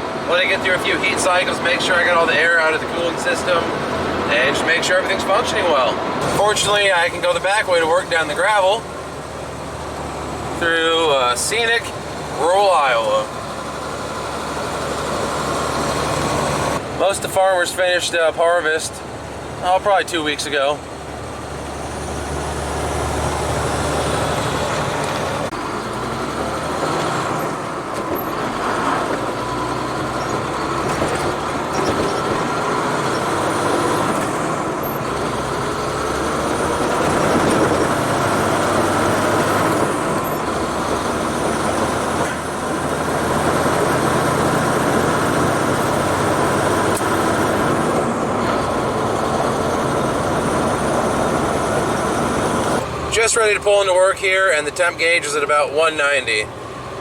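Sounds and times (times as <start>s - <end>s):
truck diesel engine: 0.0s - 57.0s
tyres and rattle on gravel: 0.0s - 57.0s.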